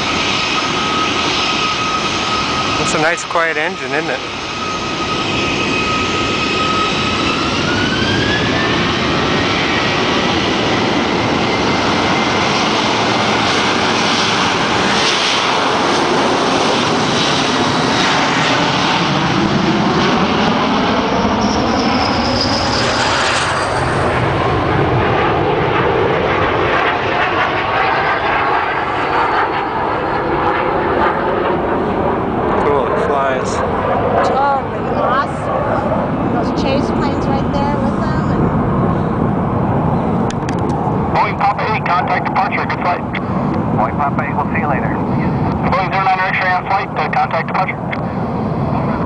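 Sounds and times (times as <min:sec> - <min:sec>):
jet engines whining at takeoff: 0:00.0 - 0:49.0.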